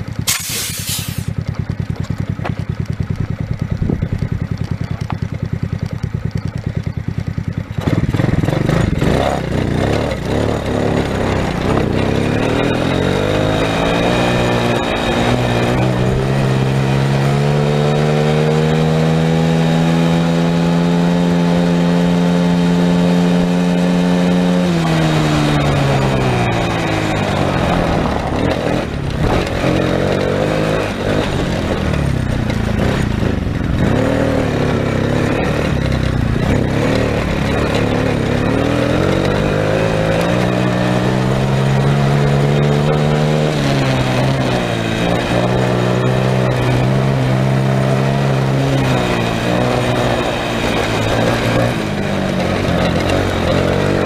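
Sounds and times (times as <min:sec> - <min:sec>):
small atv engine revving: 0:00.0 - 0:54.0.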